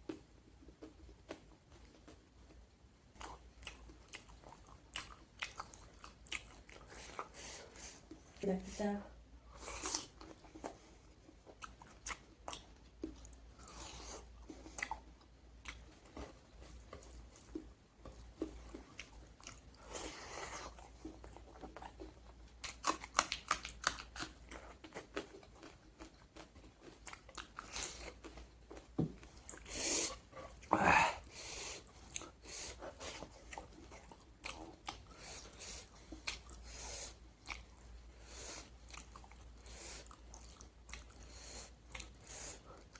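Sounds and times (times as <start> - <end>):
person chewing crunchy food: 0.0 - 8.3, 9.5 - 42.9.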